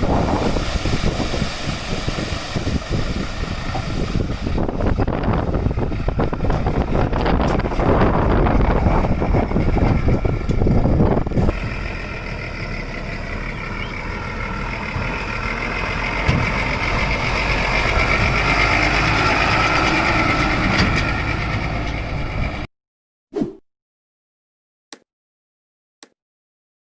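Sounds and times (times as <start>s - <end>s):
diesel machinery rumbling: 0.0s - 22.7s
high engine whine: 0.0s - 22.7s.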